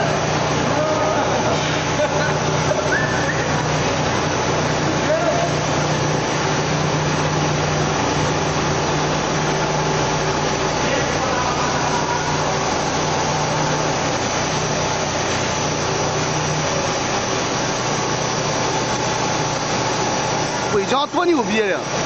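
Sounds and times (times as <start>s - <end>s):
paper machine running: 0.0s - 22.0s.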